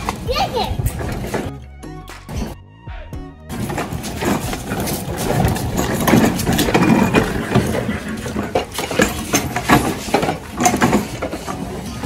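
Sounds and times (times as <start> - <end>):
plastic toy wheels rolling: 0.0 - 1.5, 3.5 - 12.0.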